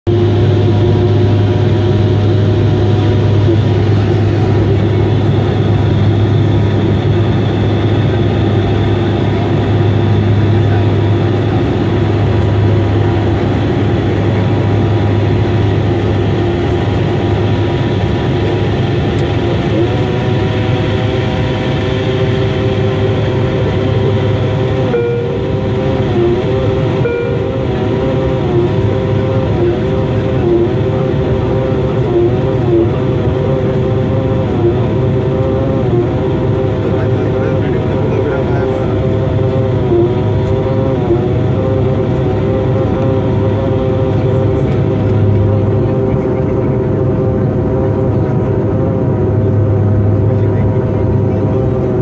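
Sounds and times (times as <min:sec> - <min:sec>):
low engine hum: 0:00.0 - 0:52.0
turboprop propeller drone: 0:00.0 - 0:52.0.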